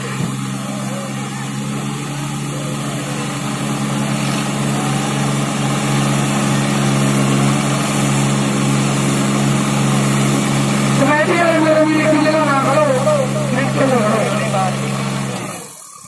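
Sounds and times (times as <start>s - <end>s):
tractor diesel engines under load: 0.0s - 16.0s.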